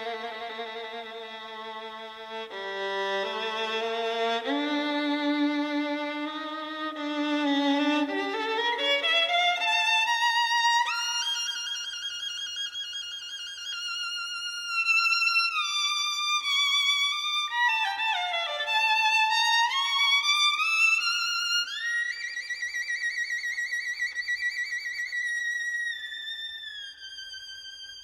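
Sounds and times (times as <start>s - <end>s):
slow solo violin melody: 0.0s - 28.0s.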